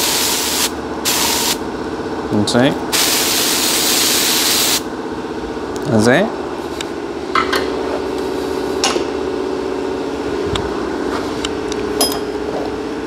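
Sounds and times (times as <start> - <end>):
mechanical hum of shop equipment: 0.0 - 13.0.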